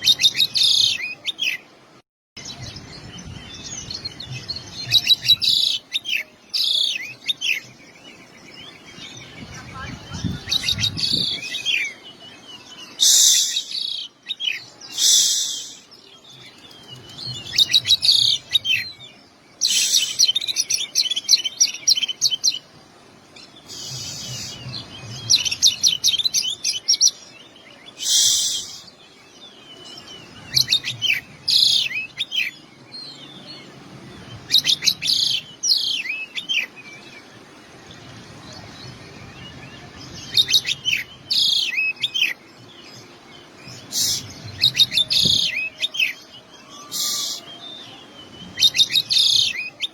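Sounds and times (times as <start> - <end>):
bird singing varied phrases: 2.4 - 49.9.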